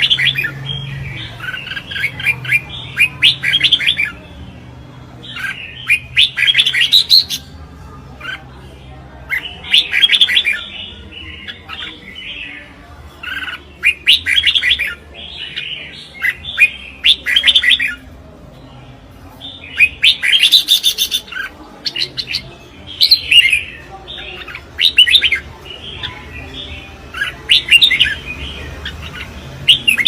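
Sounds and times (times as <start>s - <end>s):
bird singing warbling phrases: 0.0s - 30.0s.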